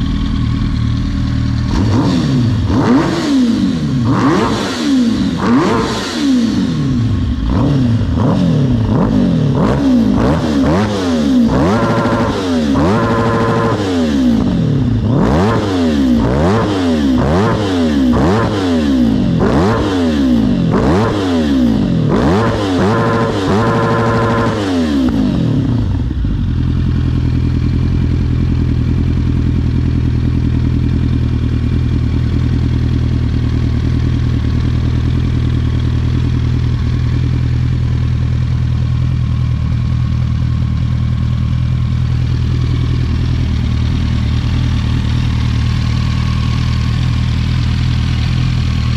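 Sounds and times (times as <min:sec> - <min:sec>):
engine revving and idling: 0:00.0 - 0:48.9.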